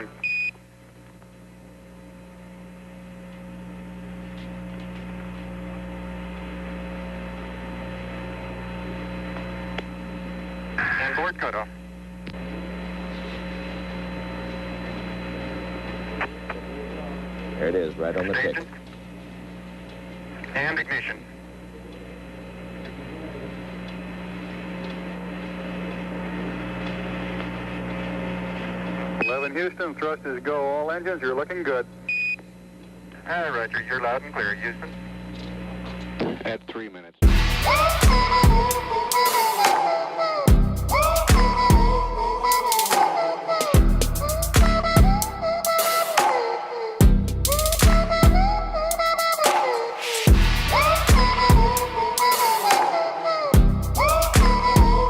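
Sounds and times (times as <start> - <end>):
radio channel hum and hiss: 0.0 - 54.8.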